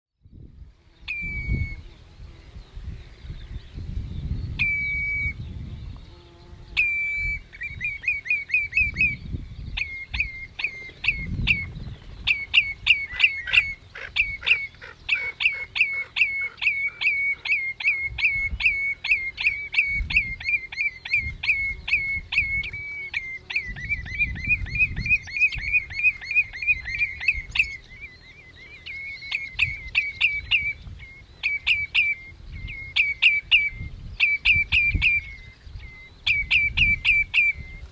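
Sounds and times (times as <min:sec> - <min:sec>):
redshank piping calls: 0:01.0 - 0:37.9.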